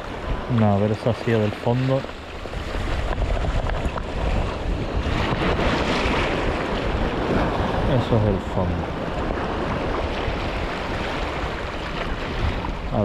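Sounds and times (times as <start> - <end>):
waves washing over rocks: 0.0 - 13.0
wind buffeting microphone: 0.0 - 13.0.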